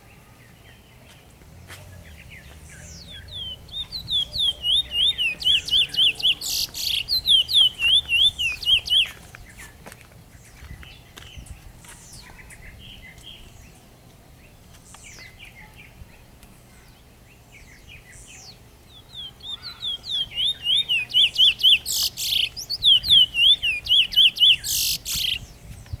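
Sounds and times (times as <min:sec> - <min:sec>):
bird chirping and singing: 0:00.0 - 0:26.0.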